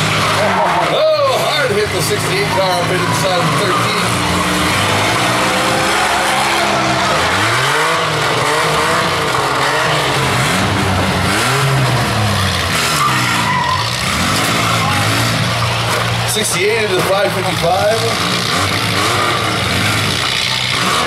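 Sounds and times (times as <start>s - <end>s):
minivan engines revving: 0.0s - 21.0s.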